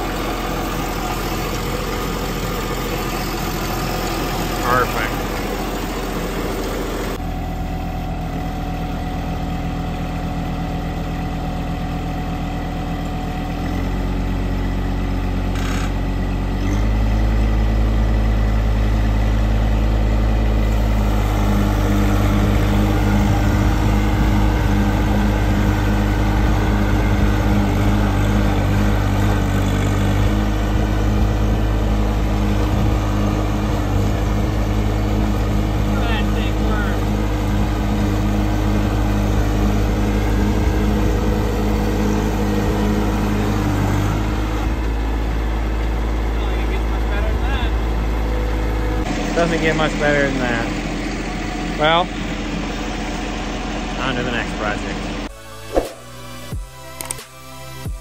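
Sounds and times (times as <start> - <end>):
tractor diesel engine running: 0.0 - 57.2.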